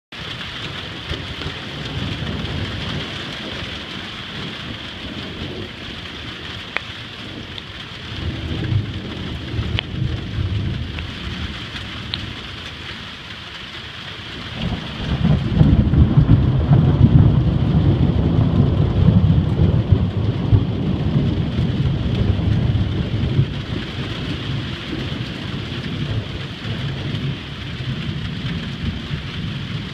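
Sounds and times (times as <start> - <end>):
steady rain falling: 0.1 - 29.9
rolling thunder: 0.2 - 12.8, 14.3 - 29.9.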